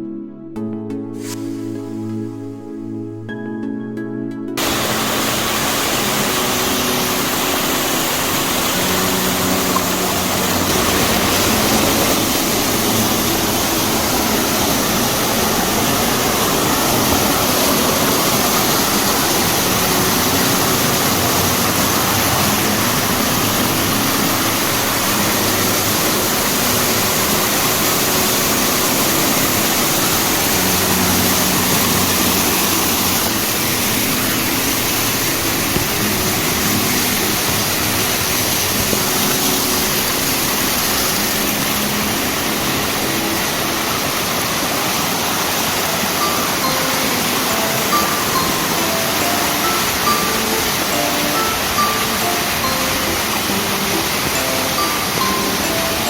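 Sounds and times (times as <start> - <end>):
stream rushing over rocks: 4.6 - 56.0.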